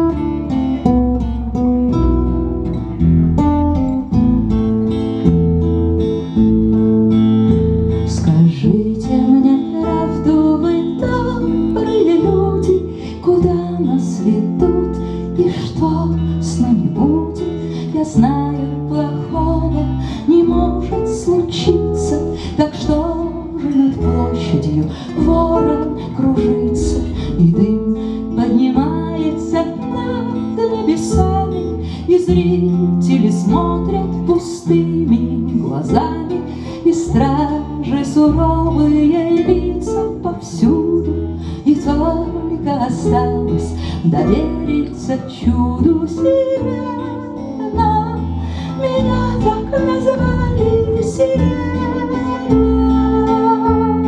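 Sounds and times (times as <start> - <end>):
acoustic guitar strummed chords: 0.0 - 54.0
guitar lead melody: 0.0 - 54.0
plucked double bass: 0.0 - 54.0.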